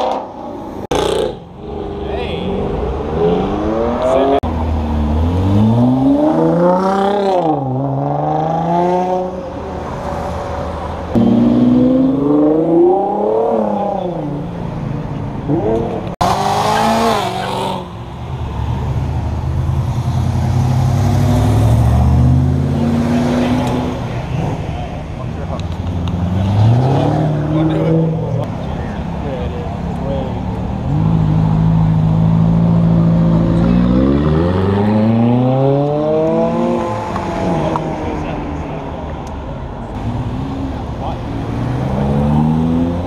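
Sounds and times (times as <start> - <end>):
car engines revving and accelerating: 0.0 - 43.0.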